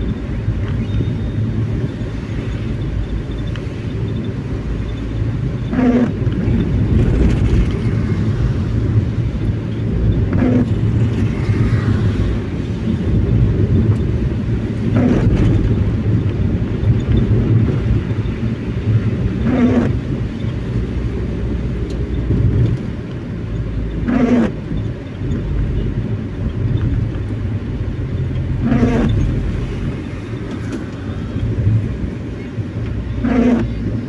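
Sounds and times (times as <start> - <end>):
vehicle road and engine rumble: 0.0 - 34.0.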